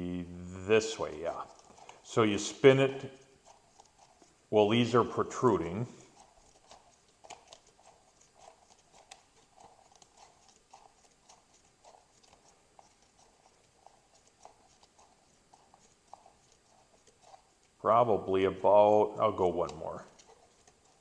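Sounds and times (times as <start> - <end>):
starter pulley clicking and rubbing: 0.9 - 4.3, 4.9 - 17.8, 19.5 - 21.0.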